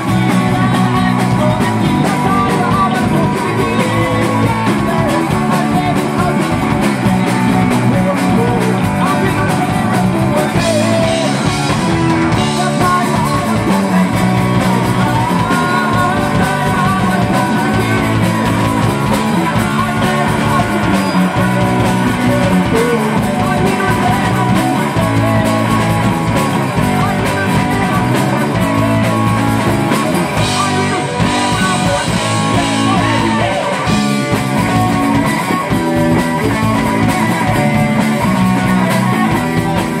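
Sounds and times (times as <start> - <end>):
bass guitar: 0.0 - 40.0
drums: 0.0 - 40.0
electric guitar: 0.0 - 40.0
man singing: 0.0 - 40.0.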